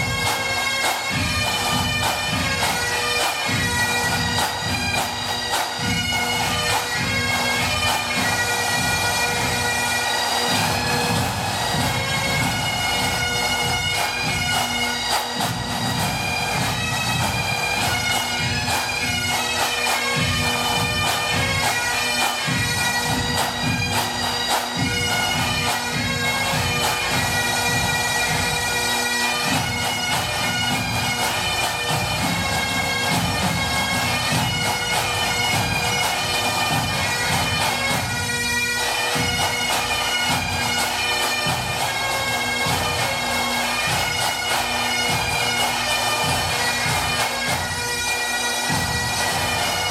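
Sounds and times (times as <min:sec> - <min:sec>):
bagpipes with drones: 0:00.0 - 0:49.9
drum beats: 0:00.0 - 0:49.9.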